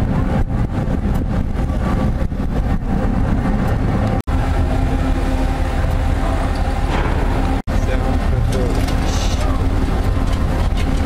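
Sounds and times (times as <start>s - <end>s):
constant engine hum: 0.0s - 11.0s
ship engine rumble: 0.0s - 11.0s.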